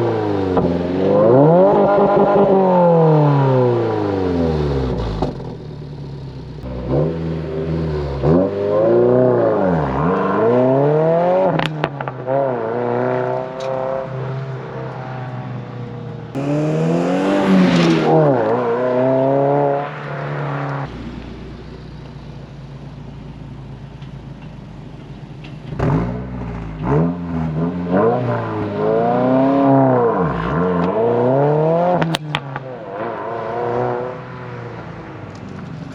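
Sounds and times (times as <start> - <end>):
car engine revving and idling: 0.0 - 35.9.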